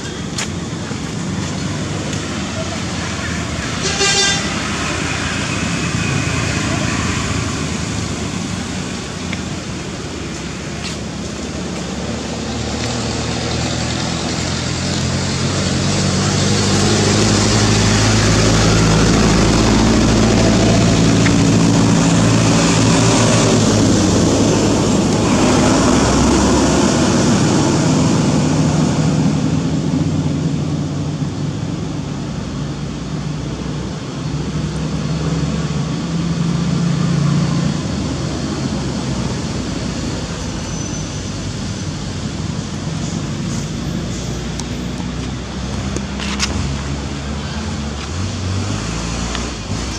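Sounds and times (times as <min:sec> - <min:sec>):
road traffic: 0:00.0 - 0:49.9.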